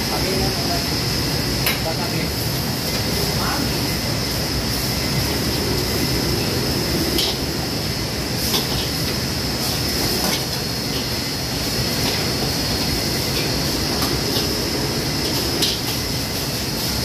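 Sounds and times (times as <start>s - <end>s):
high whine: 0.0s - 17.0s
wok range and extraction roar: 0.0s - 17.0s.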